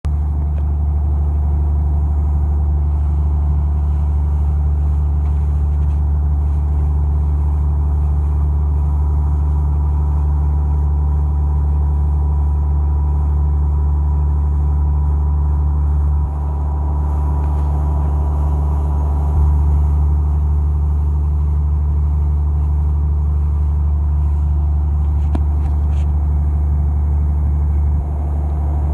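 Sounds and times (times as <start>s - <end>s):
boat engine humming: 0.1s - 28.9s.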